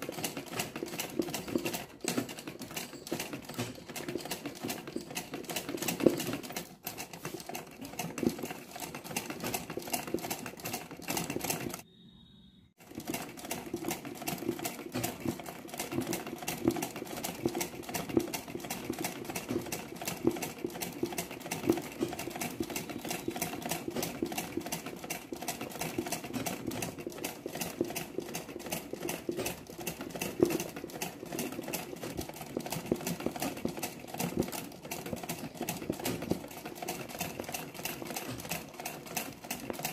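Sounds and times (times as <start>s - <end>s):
sewing machine needle clatter: 0.0s - 11.8s, 12.8s - 39.9s.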